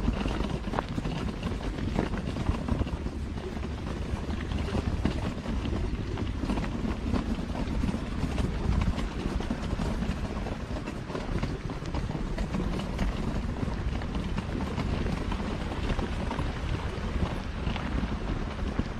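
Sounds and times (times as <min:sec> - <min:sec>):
low microphone rumble: 0:00.0 - 0:18.9.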